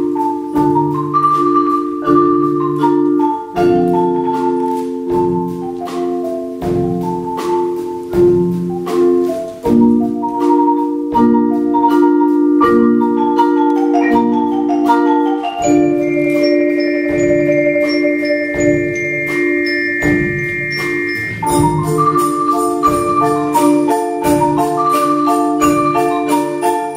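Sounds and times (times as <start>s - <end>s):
mallet percussion ensemble: 0.0s - 26.9s.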